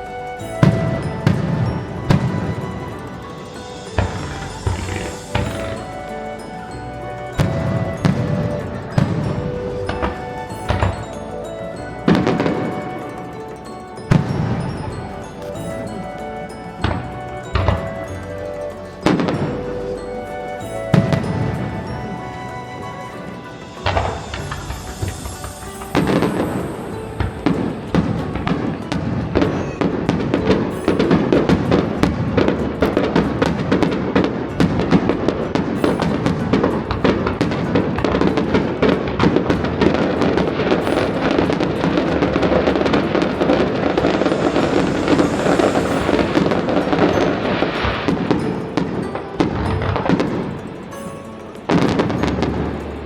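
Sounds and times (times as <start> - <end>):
fireworks bangs and crackling: 0.5 - 6.0, 7.2 - 18.1, 22.8 - 51.1, 51.7 - 53.0.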